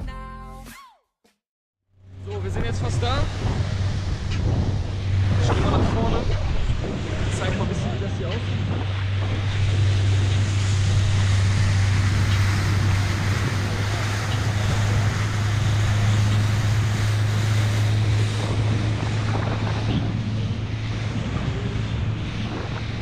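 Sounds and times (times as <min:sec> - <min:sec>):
motorboat engine droning: 0:01.9 - 0:23.0
water along hull: 0:02.0 - 0:23.0
wind on microphone: 0:02.1 - 0:23.0.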